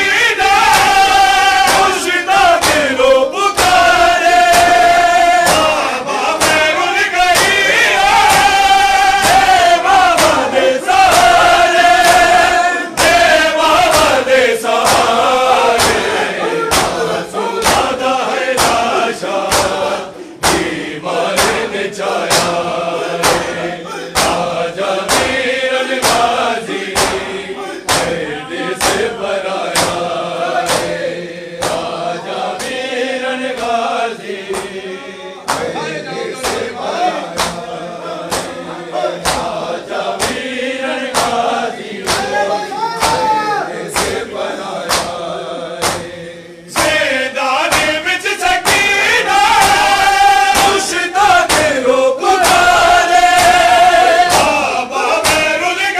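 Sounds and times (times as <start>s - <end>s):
chest-beating slaps: 0.0s - 46.2s, 46.8s - 55.7s
men chanting a lament: 0.0s - 55.9s.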